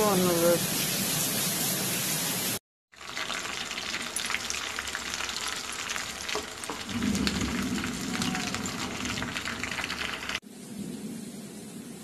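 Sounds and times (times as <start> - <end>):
food deep-frying in hot oil: 0.0 - 10.4.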